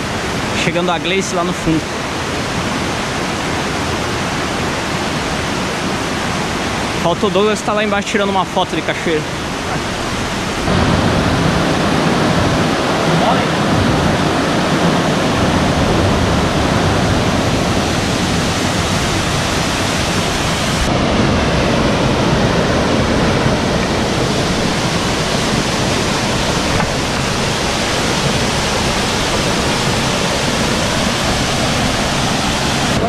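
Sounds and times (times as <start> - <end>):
small waterfall rushing: 0.0 - 33.0
stream spilling over boulders: 0.0 - 33.0.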